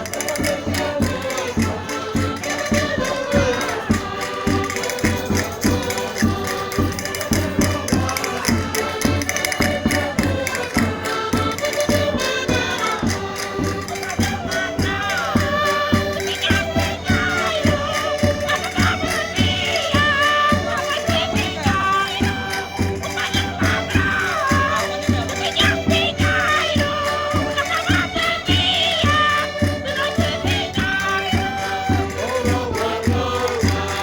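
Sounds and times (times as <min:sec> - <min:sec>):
concertinas playing folk music: 0:00.0 - 0:34.0
percussion beat: 0:00.0 - 0:34.0
voices singing along: 0:00.0 - 0:34.0.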